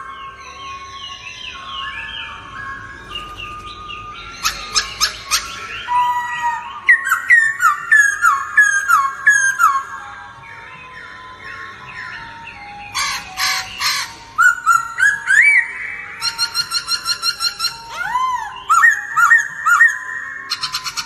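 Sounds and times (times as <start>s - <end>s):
birds singing and calling: 0.0s - 21.0s.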